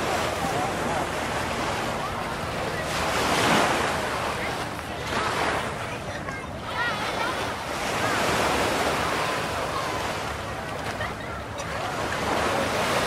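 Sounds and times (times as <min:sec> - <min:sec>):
surf breaking on a beach: 0:00.0 - 0:13.0.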